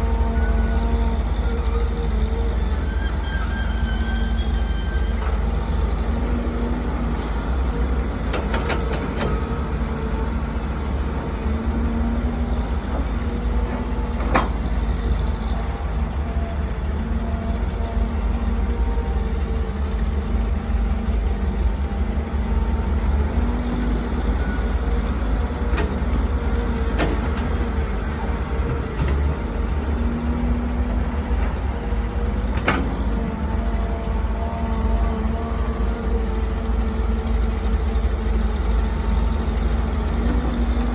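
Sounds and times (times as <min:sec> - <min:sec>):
excavator diesel engine droning: 0:00.0 - 0:40.9
hydraulics whining: 0:00.0 - 0:40.9.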